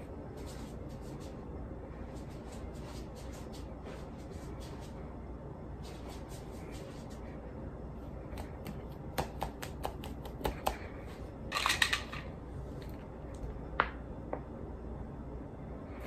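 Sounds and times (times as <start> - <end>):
faint low room hum: 0.0 - 16.0.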